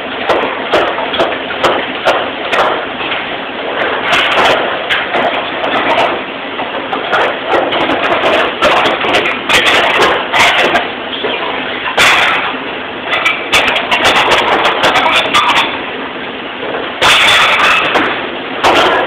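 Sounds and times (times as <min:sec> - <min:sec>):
steady background din: 0:00.0 - 0:19.0.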